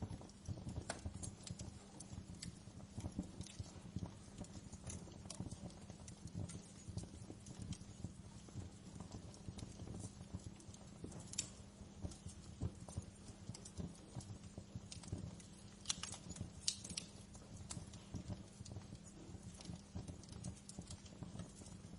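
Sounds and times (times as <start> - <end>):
low steady hum: 0.0 - 21.9
wood fire crackling: 0.0 - 21.9.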